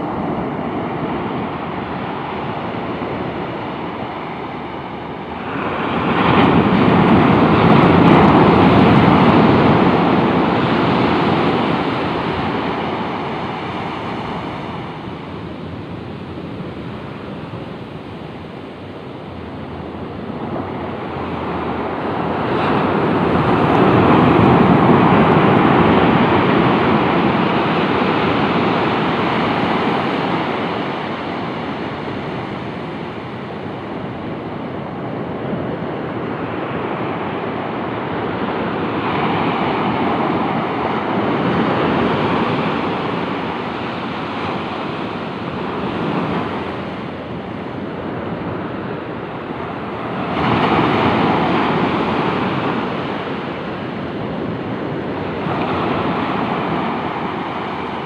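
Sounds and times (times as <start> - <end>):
sea waves breaking on a beach: 0.0 - 58.0.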